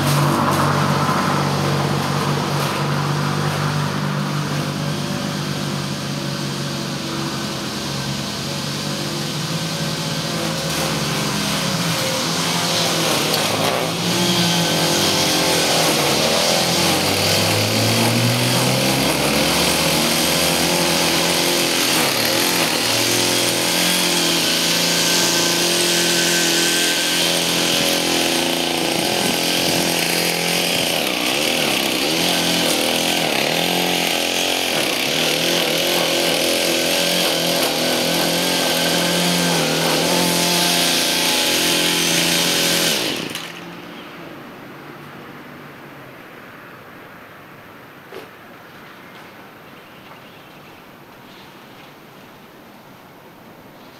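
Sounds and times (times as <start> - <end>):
string trimmer engine running: 0.0 - 43.9.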